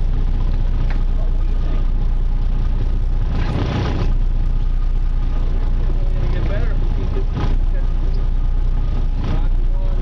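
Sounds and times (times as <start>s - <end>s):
boat motor rumbling: 0.0s - 10.0s.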